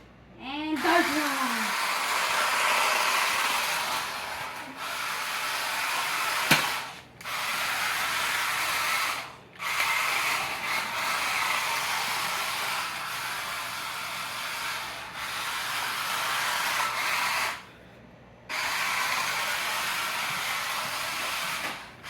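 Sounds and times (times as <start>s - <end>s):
rc car sliding across floor: 1.6s - 17.7s, 18.5s - 22.0s.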